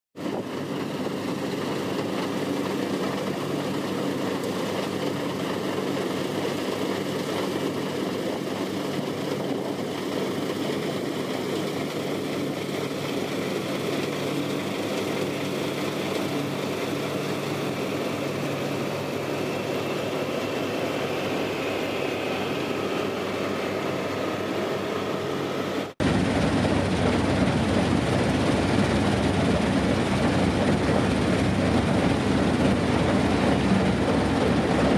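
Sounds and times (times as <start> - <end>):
combine harvester engine running: 0.2 - 34.9.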